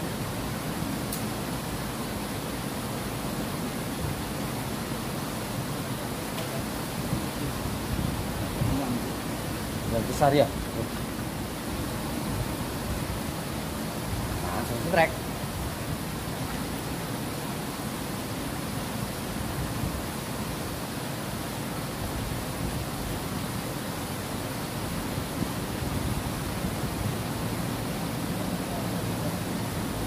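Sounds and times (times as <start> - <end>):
water rushing over a weir: 0.0 - 30.0.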